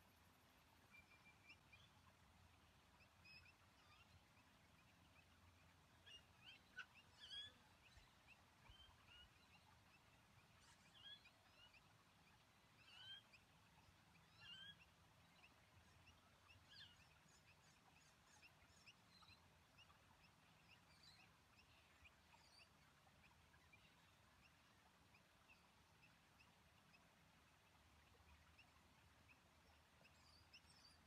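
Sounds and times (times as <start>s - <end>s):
faint bird chirps: 0.6s - 31.0s.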